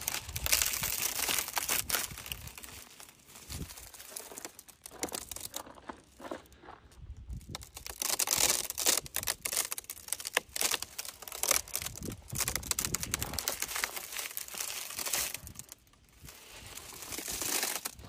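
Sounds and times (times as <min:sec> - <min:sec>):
frozen flag crackling: 0:00.0 - 0:06.4, 0:07.4 - 0:18.0.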